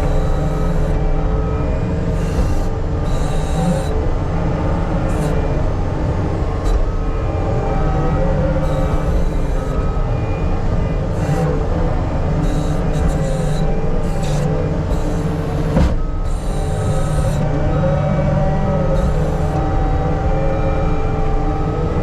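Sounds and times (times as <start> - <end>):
diesel engine rumble: 0.0 - 22.0
metallic squealing: 0.0 - 22.0.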